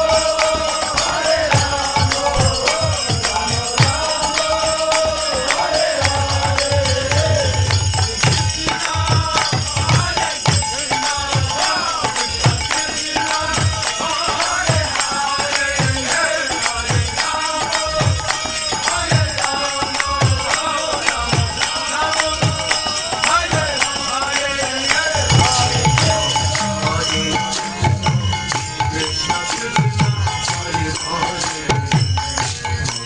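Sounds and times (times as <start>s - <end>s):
chanted singing: 0.0s - 33.0s
jingling metal percussion: 0.0s - 33.0s.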